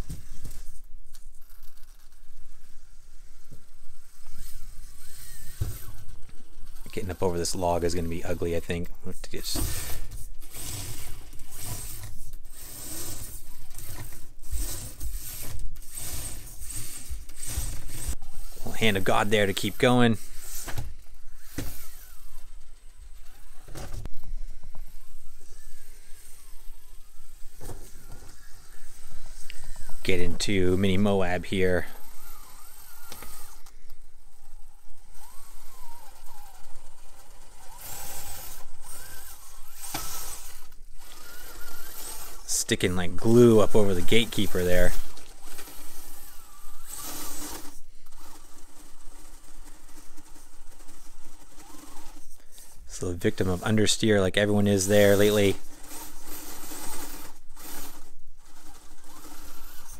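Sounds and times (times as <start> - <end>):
toy car motor whirring and clattering: 0.0 - 59.9.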